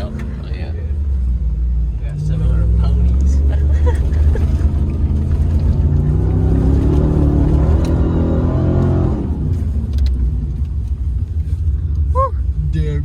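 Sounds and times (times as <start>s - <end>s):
vehicle engine accelerating: 0.0s - 13.0s.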